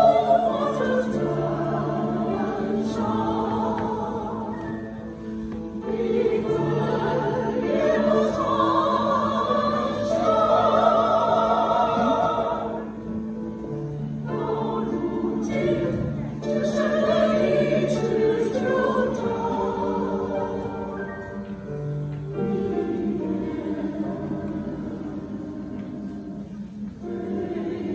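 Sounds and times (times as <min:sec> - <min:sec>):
choir singing in harmony: 0:00.0 - 0:27.9.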